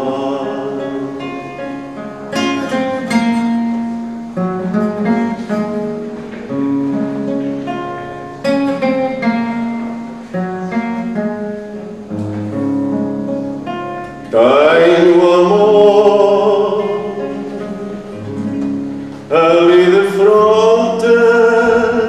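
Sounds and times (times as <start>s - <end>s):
classical guitar chords: 0.0s - 22.0s.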